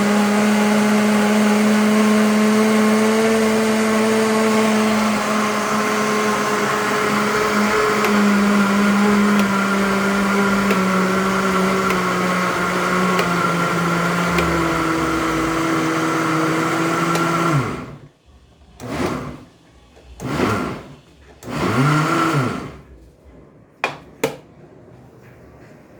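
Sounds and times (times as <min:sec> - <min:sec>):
blender motor whining: 0:00.0 - 0:18.0, 0:18.8 - 0:19.5, 0:20.2 - 0:22.9.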